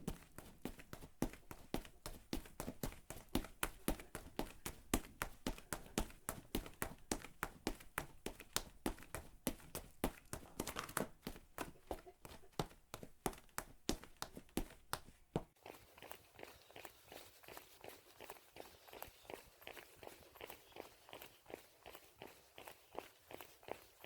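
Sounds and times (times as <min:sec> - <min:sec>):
running footsteps on crunchy ground: 0:00.0 - 0:23.9.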